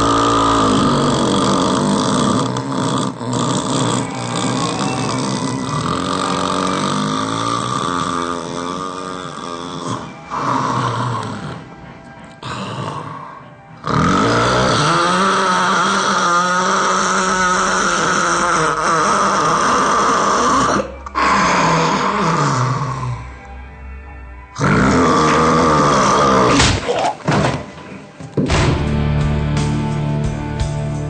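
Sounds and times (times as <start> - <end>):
person snoring loudly: 0.0 - 11.8, 12.4 - 23.4, 24.5 - 27.2.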